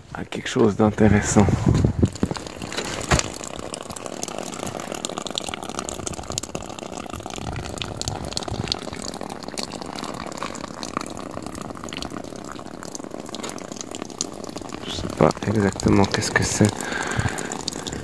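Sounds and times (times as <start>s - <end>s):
water spraying from a hose: 1.4s - 18.0s.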